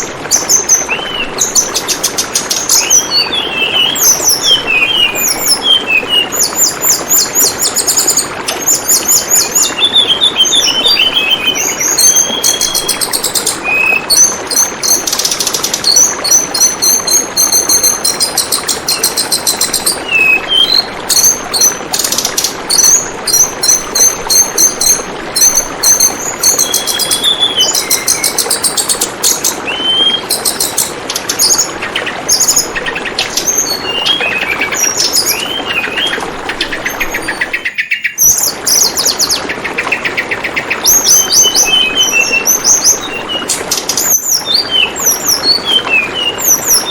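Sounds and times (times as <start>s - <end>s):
birds singing high trills: 0.0s - 46.9s
flowing water babbling: 0.0s - 46.9s.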